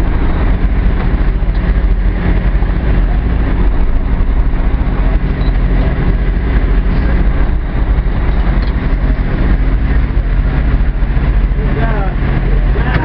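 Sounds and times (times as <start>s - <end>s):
boat engine running: 0.0s - 13.0s
water rushing along hull: 0.0s - 13.0s.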